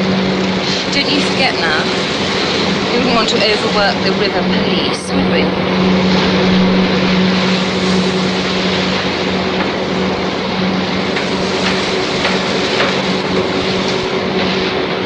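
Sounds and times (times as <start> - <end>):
boat engine droning: 0.0 - 15.0
constant low hum: 0.0 - 15.0
water wash rushing: 0.0 - 15.0
wind: 0.0 - 15.0.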